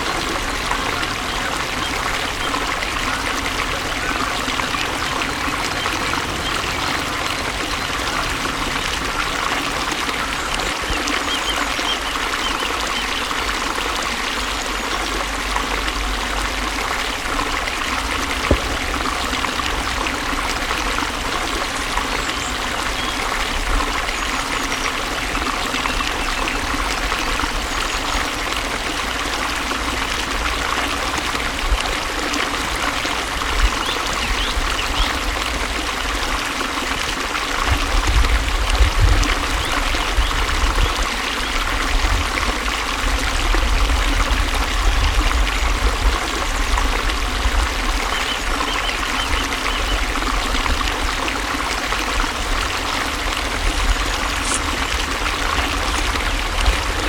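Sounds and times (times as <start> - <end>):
water rushing and trickling: 0.0 - 57.0.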